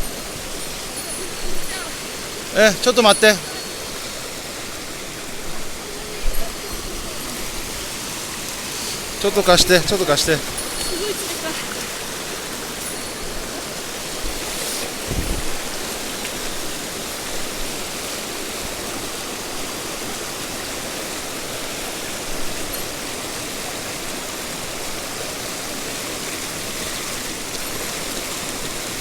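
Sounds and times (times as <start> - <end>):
stream running water: 0.0 - 29.0.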